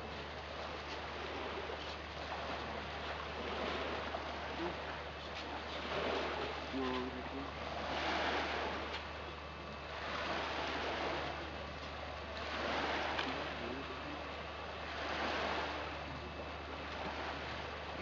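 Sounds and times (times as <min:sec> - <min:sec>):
steady low hum: 0:00.0 - 0:18.0
waves washing on beach: 0:00.0 - 0:18.0.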